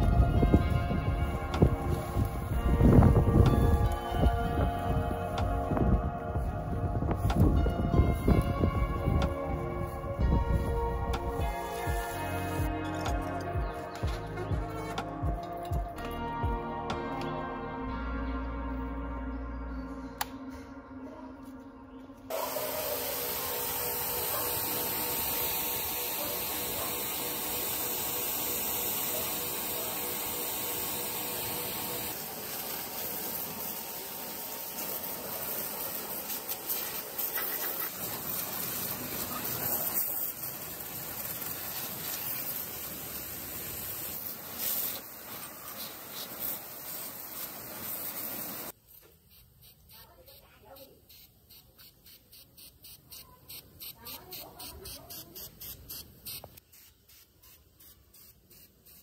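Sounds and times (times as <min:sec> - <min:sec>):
pressure washer jet hissing: 0:00.0 - 0:05.8, 0:07.0 - 0:15.6, 0:22.3 - 0:50.4, 0:51.0 - 0:59.0.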